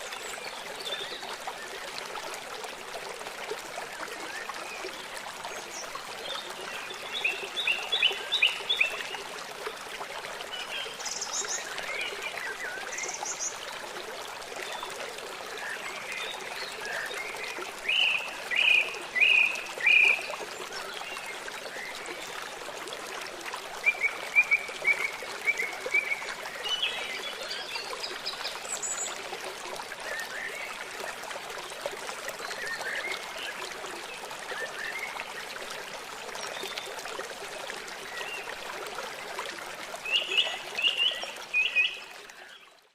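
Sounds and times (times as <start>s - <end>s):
trickling stream: 0.0s - 42.9s.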